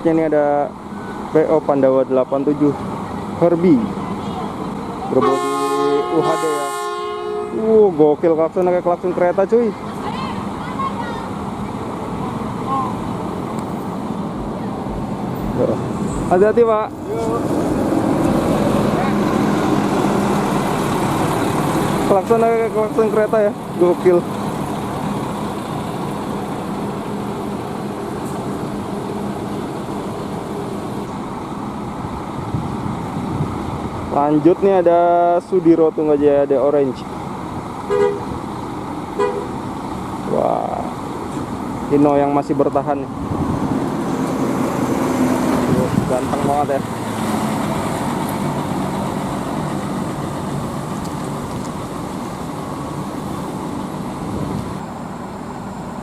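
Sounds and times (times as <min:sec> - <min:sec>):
bus engines running: 0:00.0 - 0:56.0
traffic noise: 0:00.0 - 0:56.0.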